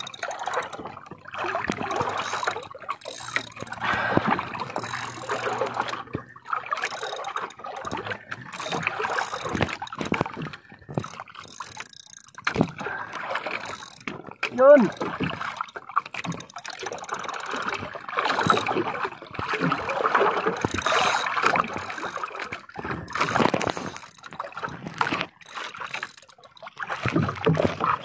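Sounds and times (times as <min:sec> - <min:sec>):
small knocks and clicks: 0:00.0 - 0:18.8, 0:20.4 - 0:27.8
water lapping against a hull: 0:00.0 - 0:28.0.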